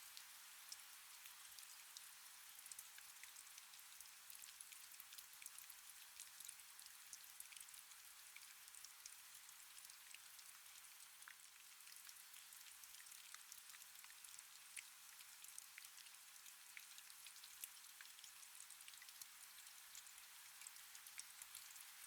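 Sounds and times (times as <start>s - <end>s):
faint steady rain: 0.0s - 22.0s.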